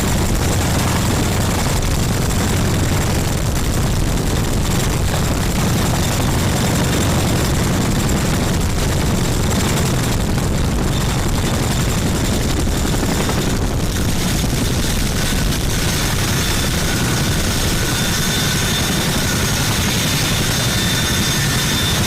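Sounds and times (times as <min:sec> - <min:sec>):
helicopter rotor and engines: 0:00.0 - 0:22.0.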